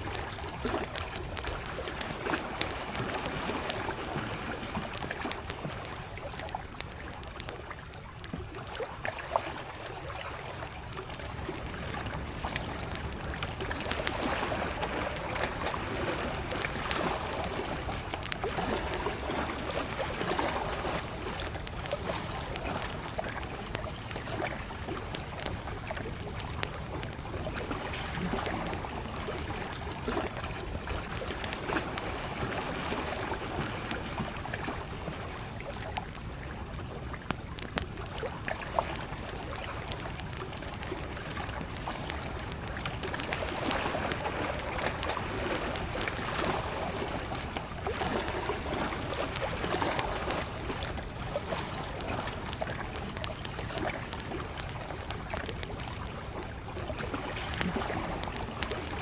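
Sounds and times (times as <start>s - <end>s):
campfire crackling: 0.0s - 59.0s
lake waves lapping: 0.0s - 59.0s.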